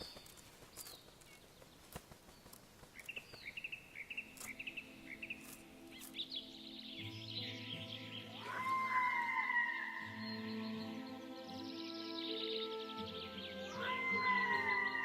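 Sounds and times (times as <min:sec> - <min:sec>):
faint forest ambience: 0:00.0 - 0:15.0
small birds chirping: 0:00.0 - 0:15.0.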